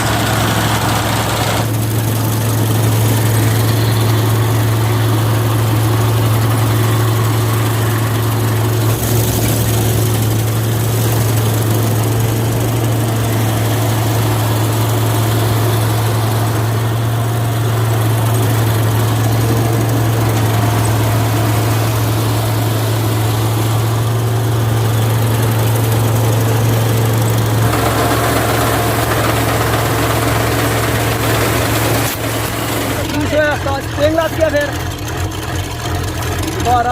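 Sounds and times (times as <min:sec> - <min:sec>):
diesel engine of harvester running: 0:00.0 - 0:36.9.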